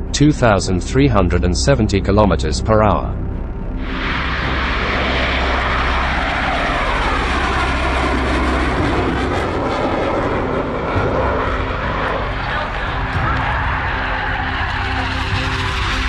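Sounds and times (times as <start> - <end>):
fighter jets flying past: 0.4 - 16.0.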